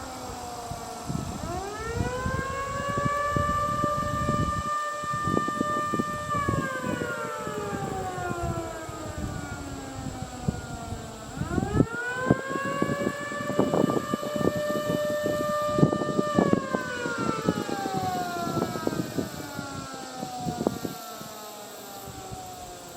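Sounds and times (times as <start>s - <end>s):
distant tornado siren wailing: 0.0s - 22.9s.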